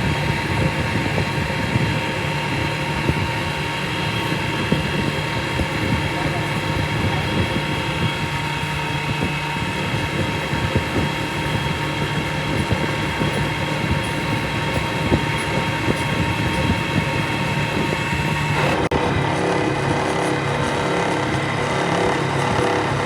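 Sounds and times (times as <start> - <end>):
machinery rattling: 0.0 - 23.0
machinery whining tones: 0.0 - 23.0.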